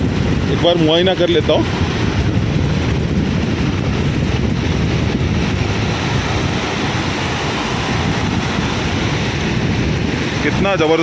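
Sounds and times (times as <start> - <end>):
fast-flowing stream rushing: 0.0 - 11.0
wind buffeting microphone: 0.0 - 11.0.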